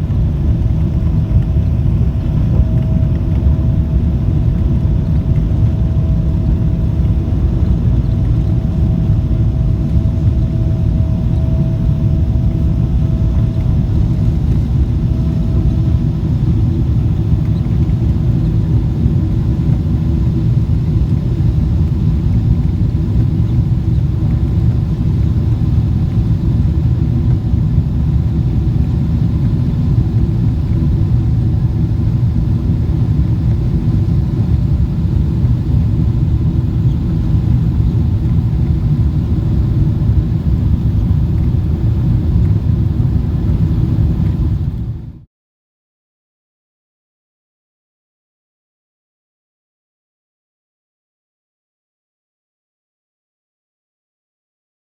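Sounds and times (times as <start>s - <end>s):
faint steady whine: 0.0s - 45.2s
jet engine rumble in cabin: 0.0s - 45.3s.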